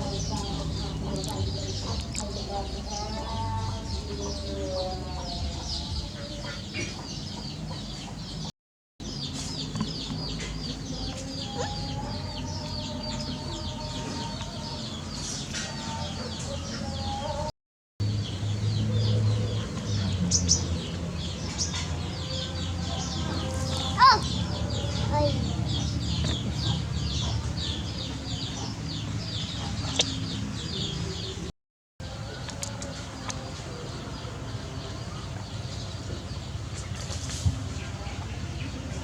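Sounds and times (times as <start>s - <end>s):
chickens clucking and chirping: 0.0s - 8.5s, 9.1s - 17.5s, 18.8s - 39.0s.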